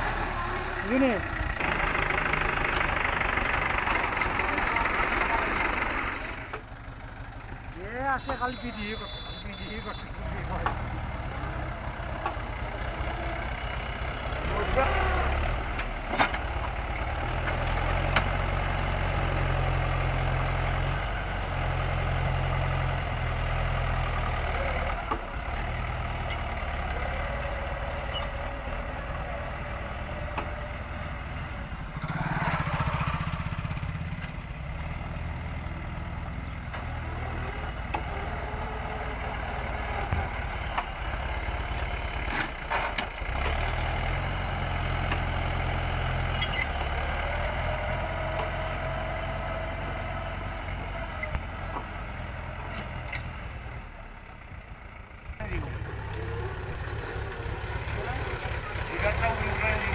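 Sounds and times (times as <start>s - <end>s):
backhoe loader diesel engine running: 0.0s - 59.9s.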